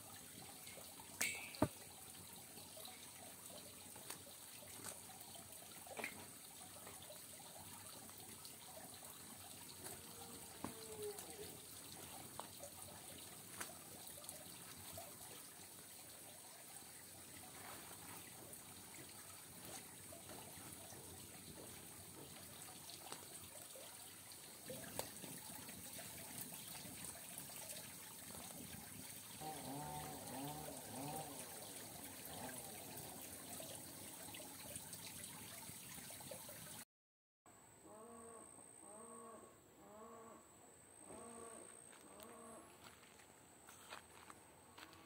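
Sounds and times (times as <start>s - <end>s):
water trickling: 0.0s - 36.8s.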